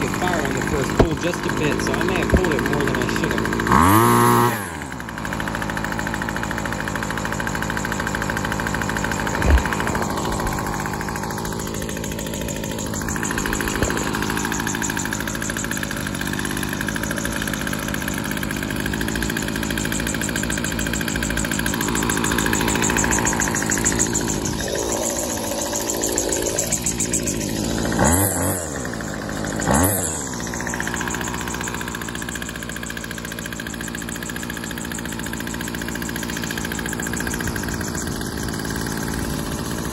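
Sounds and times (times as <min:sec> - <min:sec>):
string trimmer engine idling: 0:00.0 - 0:39.9
string trimmer engine revving: 0:00.0 - 0:39.9.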